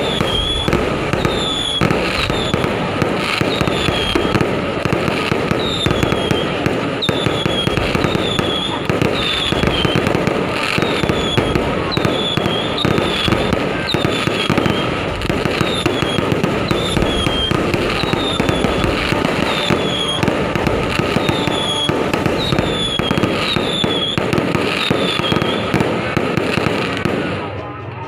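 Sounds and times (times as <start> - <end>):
firework whistles: 0.0 - 27.8
fireworks crackling and popping: 0.0 - 28.0.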